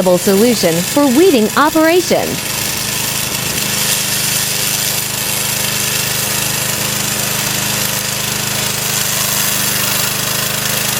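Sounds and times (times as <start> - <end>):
lawn mower engine running: 0.0 - 10.9.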